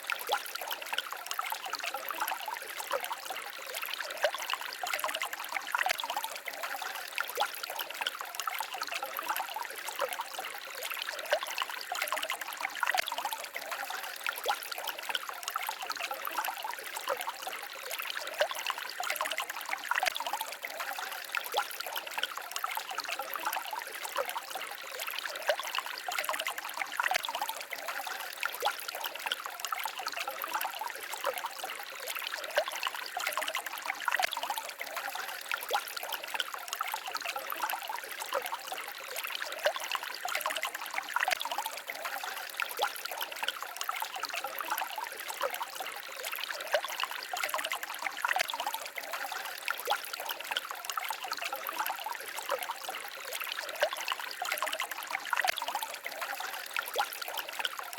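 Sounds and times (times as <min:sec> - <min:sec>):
stream trickling over stones: 0:00.0 - 0:57.9.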